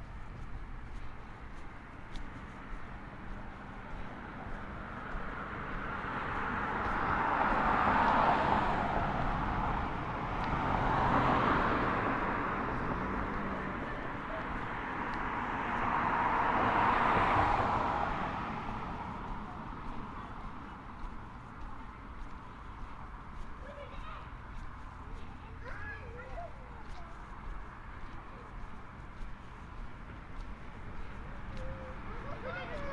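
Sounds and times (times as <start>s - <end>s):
vehicles passing by: 0.0s - 32.9s.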